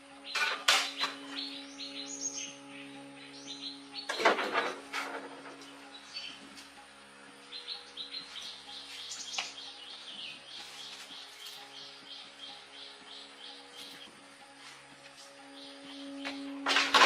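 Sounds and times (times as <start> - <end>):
small birds chirping: 0.0 - 4.2, 5.5 - 16.7
faint steady hum: 0.0 - 17.0.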